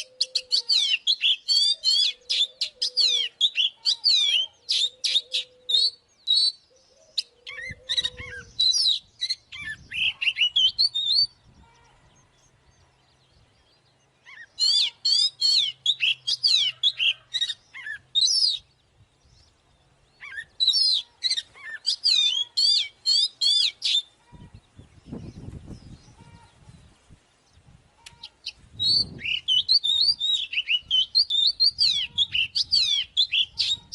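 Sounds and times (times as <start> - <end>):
bird singing whistled notes: 0.0 - 33.9.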